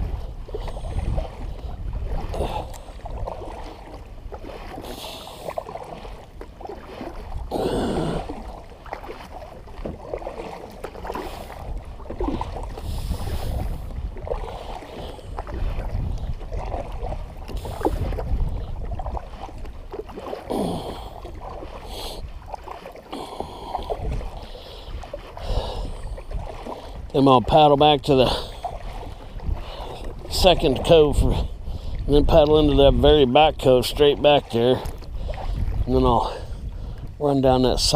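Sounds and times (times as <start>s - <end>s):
water splashing around kayak: 0.0s - 37.9s
wind rumbling on microphone: 0.0s - 37.9s.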